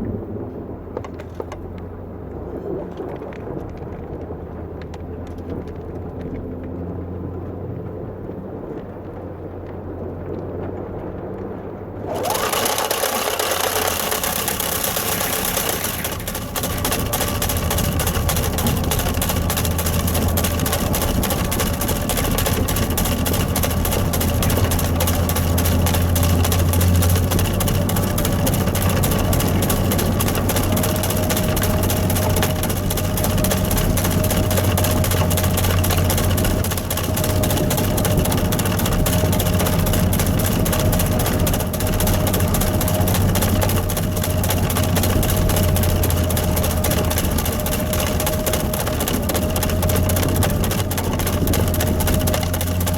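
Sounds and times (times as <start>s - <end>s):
engine humming: 0.0s - 52.9s.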